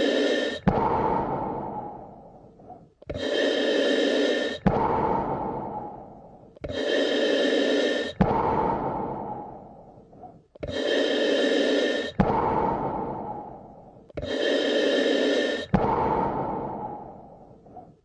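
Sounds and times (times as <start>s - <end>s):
deep human breathing: 0.0s - 18.0s.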